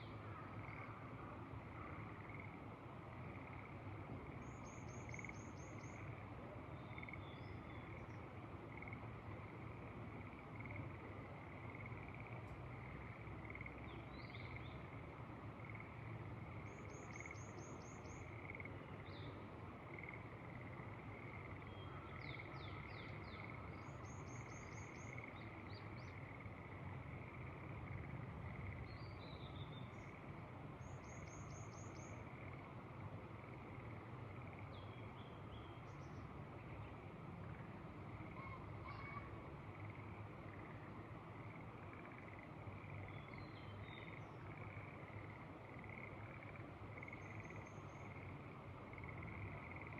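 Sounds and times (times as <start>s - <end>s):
outdoor noise bed: 0.0s - 49.9s.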